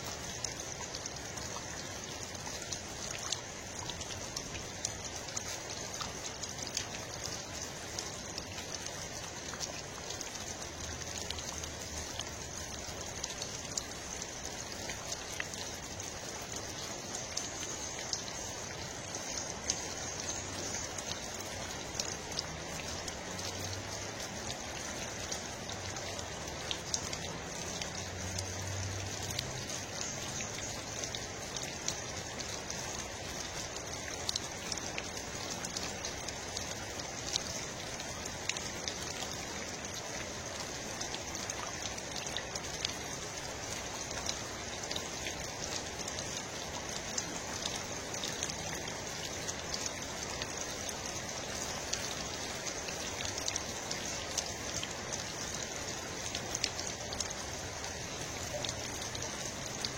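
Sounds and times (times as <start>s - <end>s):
rain falling: 0.0s - 59.9s
raindrop ticks: 0.1s - 59.9s.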